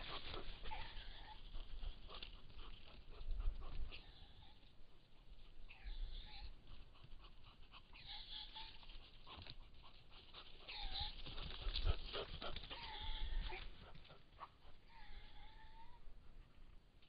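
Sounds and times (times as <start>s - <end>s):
deer panting: 0.0s - 15.9s
hooves and rustling undergrowth: 0.0s - 16.9s.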